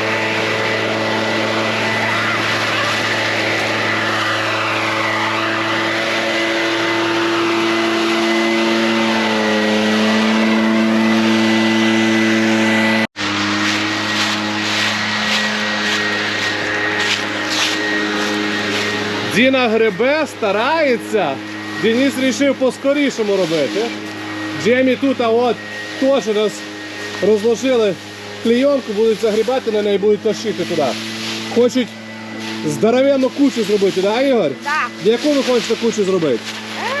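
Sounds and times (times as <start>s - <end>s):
leaf blower engine running: 0.0s - 37.0s.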